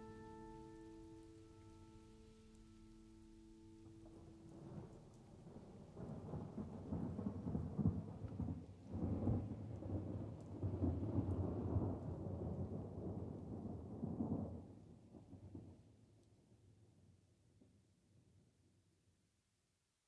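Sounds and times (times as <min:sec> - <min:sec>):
faint hiss like rain: 0:00.0 - 0:18.9.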